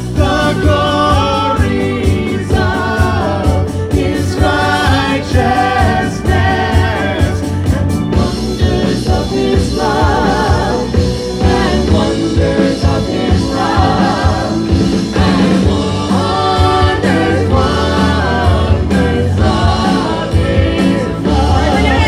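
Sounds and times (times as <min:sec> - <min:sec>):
band with steady beat: 0:00.0 - 0:22.0
people singing: 0:00.0 - 0:22.0.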